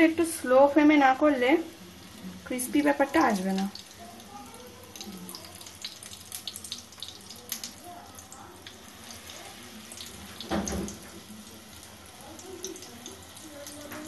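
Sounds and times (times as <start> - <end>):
food deep-frying in hot oil: 0.0 - 14.0.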